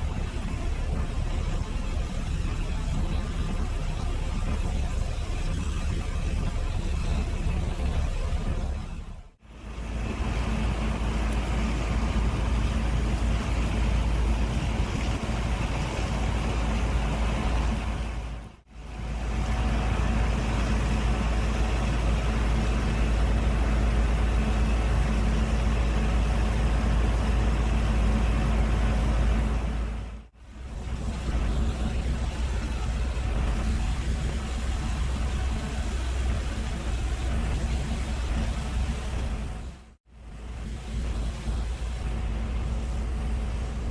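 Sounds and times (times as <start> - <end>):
combine engine rumble: 0.0 - 43.9.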